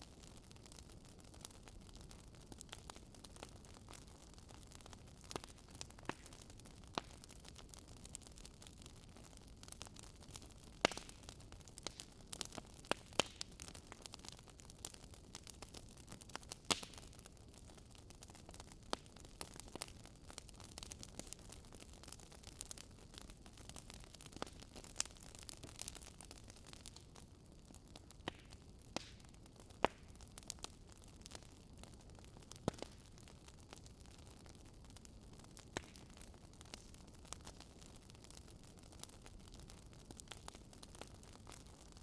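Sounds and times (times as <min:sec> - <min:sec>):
faint steady hiss: 0:00.0 - 0:42.0
wood crackling in campfire: 0:00.0 - 0:42.0.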